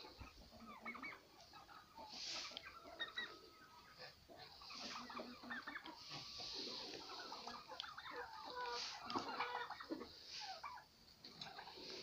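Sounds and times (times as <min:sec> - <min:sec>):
chickens and turkeys clucking: 0:00.0 - 0:12.0.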